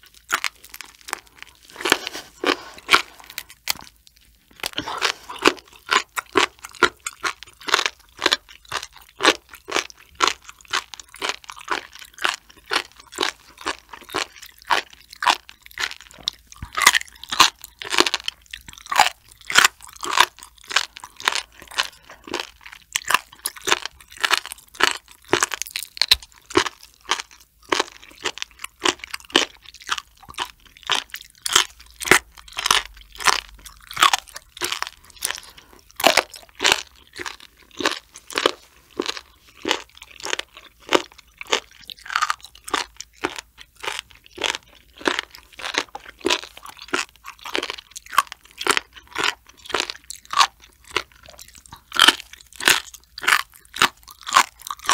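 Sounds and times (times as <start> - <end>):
chewing with crisp crunches: 0.0 - 54.9.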